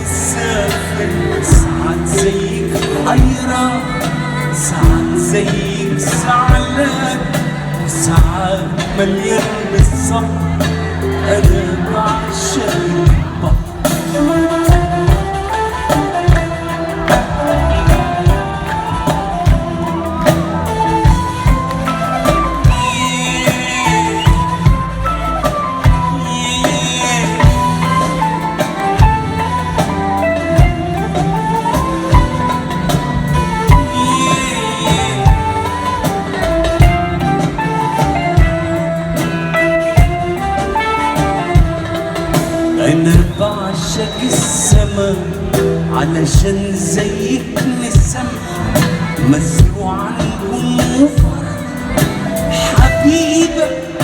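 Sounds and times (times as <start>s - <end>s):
bass: 0.0s - 54.0s
drum hits on steady beat: 0.0s - 54.0s
live band playing pop music: 0.0s - 54.0s
melodic lead line: 0.0s - 54.0s.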